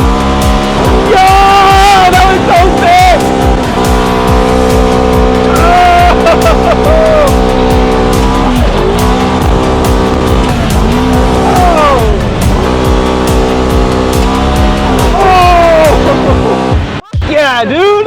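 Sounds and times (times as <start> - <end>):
car engine revving high: 0.0 - 17.0
music with steady beat: 0.0 - 17.5.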